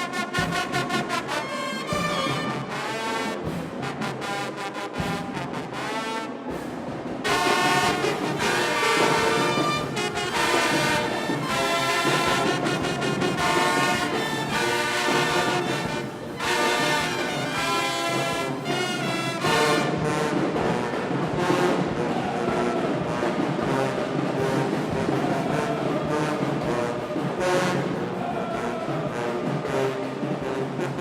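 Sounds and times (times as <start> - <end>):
marching band brass playing: 0.0 - 31.0.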